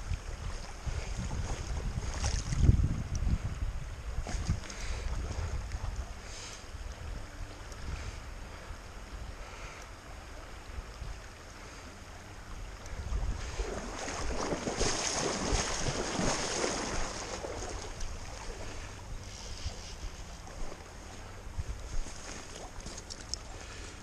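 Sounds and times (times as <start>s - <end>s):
wind noise on microphone: 0.0s - 9.7s, 12.8s - 23.1s
creek water running: 0.0s - 24.0s.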